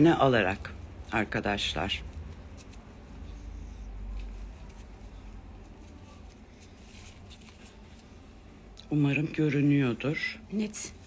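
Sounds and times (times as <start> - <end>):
crochet hook rustling cord: 0.0 - 11.0.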